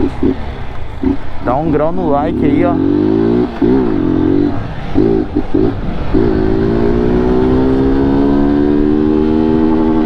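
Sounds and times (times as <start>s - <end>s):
motorcycle engine accelerating: 0.0s - 10.0s
wind rumble: 0.0s - 10.0s.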